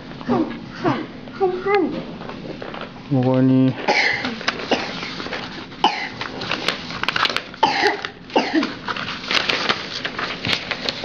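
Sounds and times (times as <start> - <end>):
paper sheets rustling: 2.0 - 11.0.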